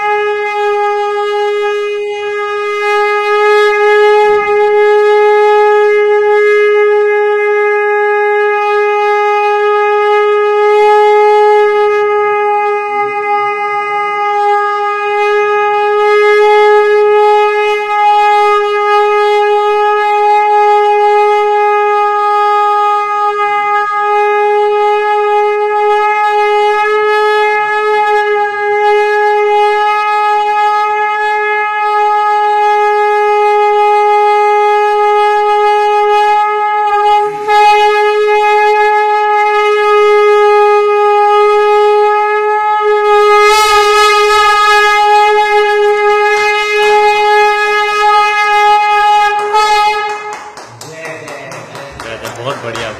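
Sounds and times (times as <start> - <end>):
conch shell blown: 0.0 - 52.9.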